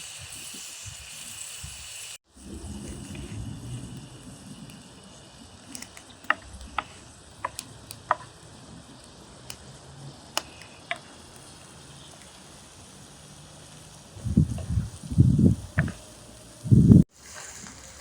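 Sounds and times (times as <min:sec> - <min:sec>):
faint steady hiss: 0:00.0 - 0:18.0
food crackling in a pan: 0:00.0 - 0:18.0.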